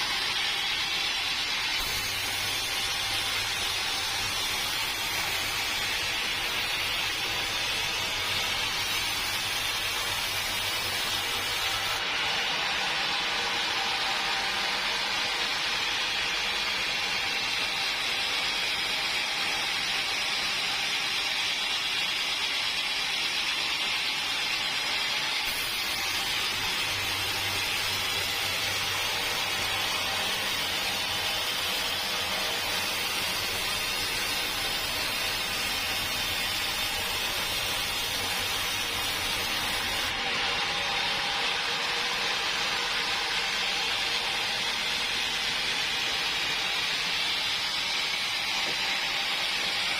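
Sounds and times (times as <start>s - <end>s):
sawmill machinery hissing: 0.0s - 49.9s.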